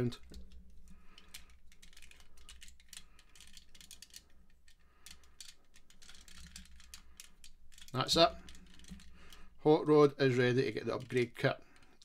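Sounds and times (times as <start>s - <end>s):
plastic toy joints clicking: 0.0s - 9.5s, 10.6s - 12.0s.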